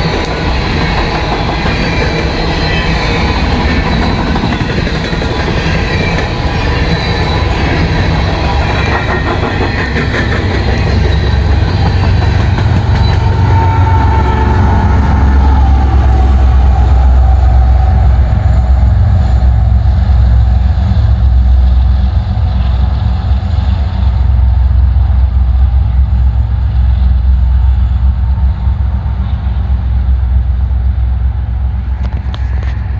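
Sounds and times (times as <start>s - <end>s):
train low rumble: 0.0s - 32.9s
train wheel squeal and clatter: 0.0s - 32.9s.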